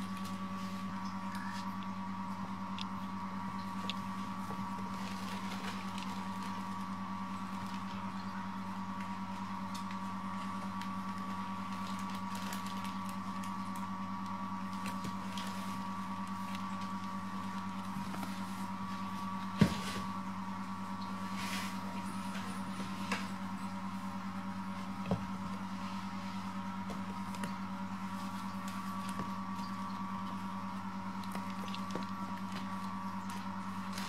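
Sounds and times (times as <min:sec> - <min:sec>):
kittens tapping and rustling: 0:00.0 - 0:34.0
low electrical hum: 0:00.0 - 0:34.0.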